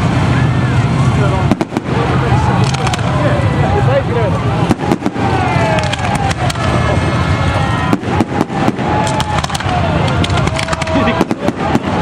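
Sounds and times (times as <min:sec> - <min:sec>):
race car engines rumbling: 0:00.0 - 0:12.0
sharp exhaust cracks: 0:00.0 - 0:12.0.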